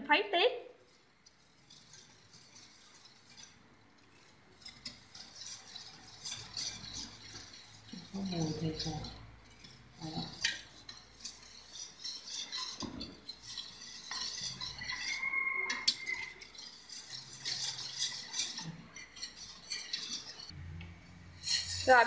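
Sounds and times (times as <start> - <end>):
whisk scraping a metal pot: 0.8 - 22.0.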